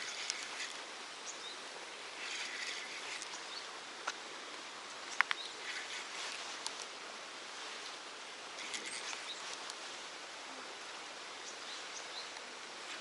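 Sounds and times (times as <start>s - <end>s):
rustling: 0.0s - 10.7s, 11.5s - 13.0s
outdoor hiss: 0.0s - 13.0s.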